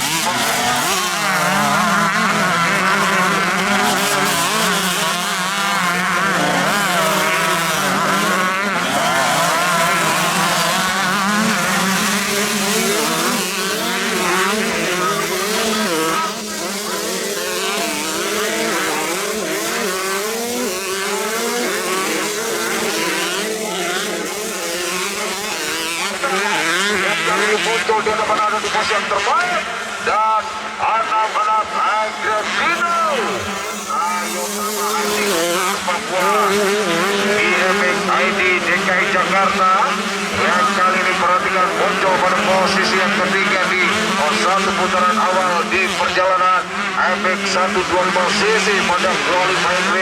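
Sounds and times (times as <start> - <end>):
motocross bikes revving: 0.0 - 50.0.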